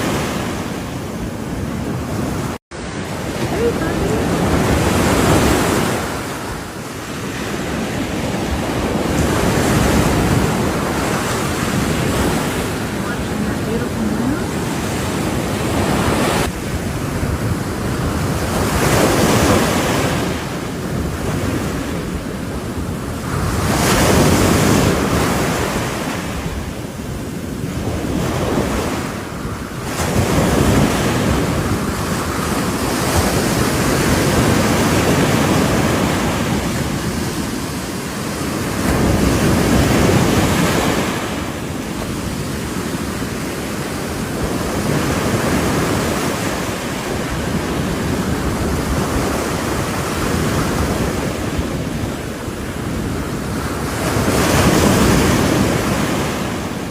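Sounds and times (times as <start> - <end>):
ocean waves breaking: 0.0 - 56.9
wind buffeting microphone: 0.0 - 56.9.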